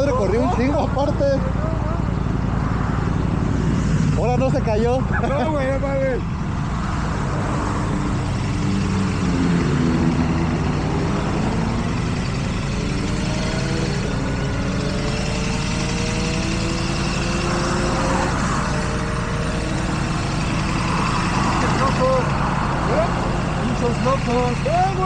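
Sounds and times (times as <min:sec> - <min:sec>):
riding wind rush: 0:02.3 - 0:25.0
motorcycle engine pulling: 0:04.0 - 0:25.0.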